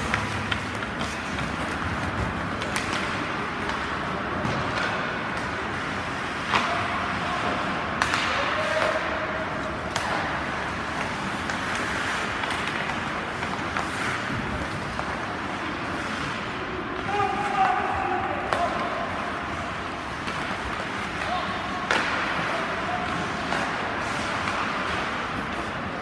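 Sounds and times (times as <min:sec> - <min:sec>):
hockey sticks and puck cracking: 0:00.0 - 0:26.0.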